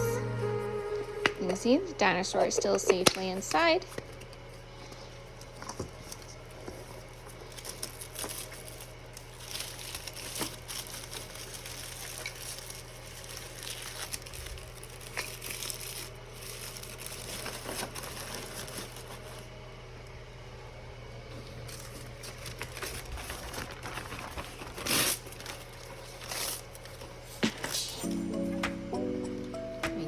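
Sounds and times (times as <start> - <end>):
wrapping material crinkling: 0.0 - 19.5, 21.3 - 28.1
steady low hum: 0.0 - 30.0.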